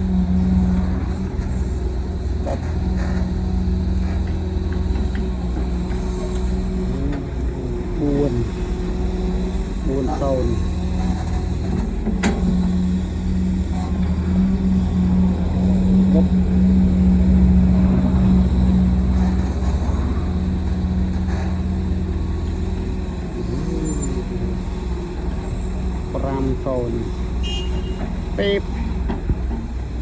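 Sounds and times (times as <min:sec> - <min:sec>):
heavy diesel engine under load: 0:00.0 - 0:30.0.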